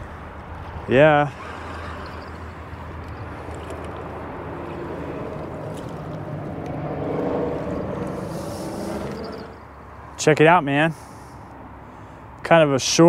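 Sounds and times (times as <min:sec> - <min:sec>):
vehicle passing: 0:00.0 - 0:12.4
highway traffic drone: 0:00.0 - 0:13.0.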